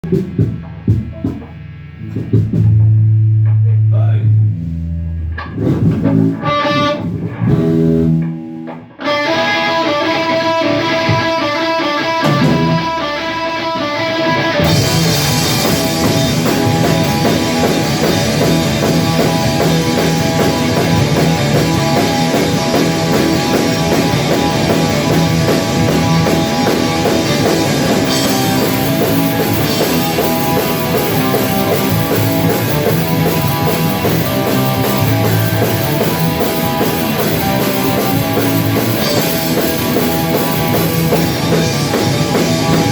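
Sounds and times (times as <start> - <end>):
rock band playing: 0.0 - 42.9
guitar picking a melody: 5.3 - 42.9.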